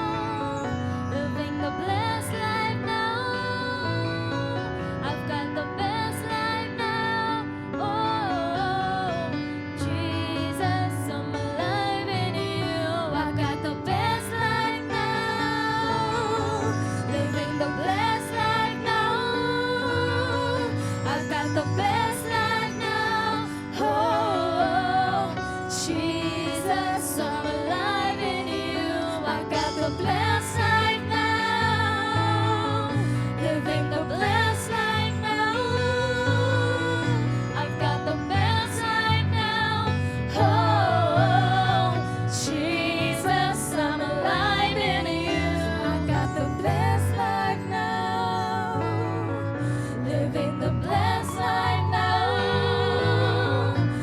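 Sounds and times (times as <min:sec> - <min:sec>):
gospel worship music: 0:00.0 - 0:54.0.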